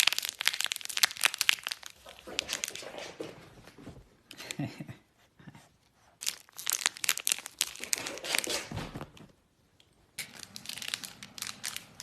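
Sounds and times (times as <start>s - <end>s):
crinkling and rustling crackles: 0.0s - 4.4s, 6.2s - 12.0s.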